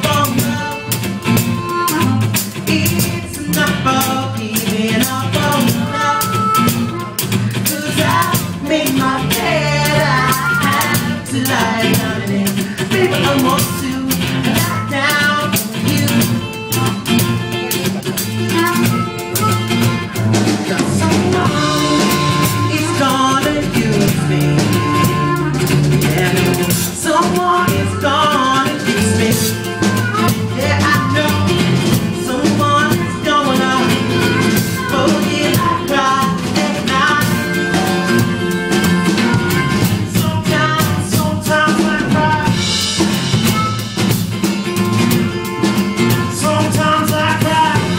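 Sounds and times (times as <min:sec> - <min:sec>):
person singing: 0:00.0 - 0:44.1, 0:44.8 - 0:47.9
drum kit: 0:00.0 - 0:47.9
live band playing: 0:00.0 - 0:47.9.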